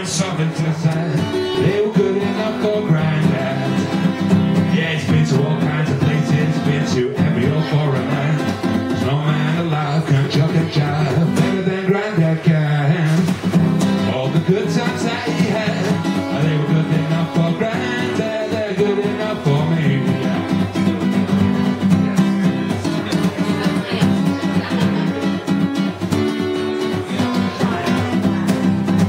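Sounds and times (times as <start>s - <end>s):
acoustic guitar: 0.0s - 29.0s
man singing: 0.0s - 29.0s.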